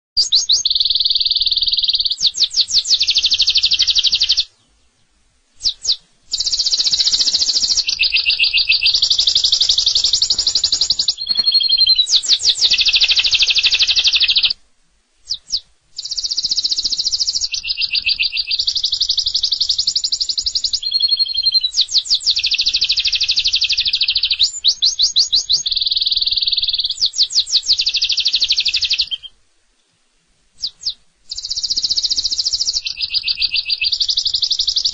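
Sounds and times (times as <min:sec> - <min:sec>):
canary singing trills: 0:00.2 - 0:14.6, 0:15.2 - 0:29.4, 0:30.6 - 0:34.9.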